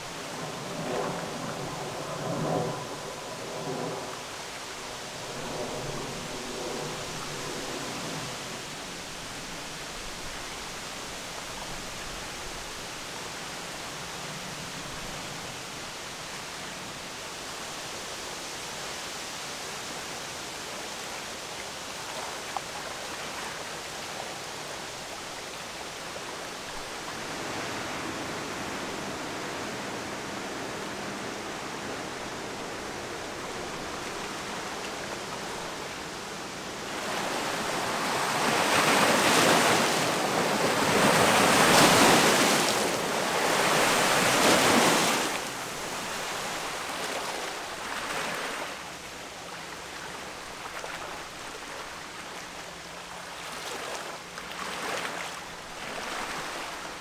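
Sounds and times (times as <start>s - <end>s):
river water rushing: 0.0s - 57.0s
wind: 0.0s - 57.0s.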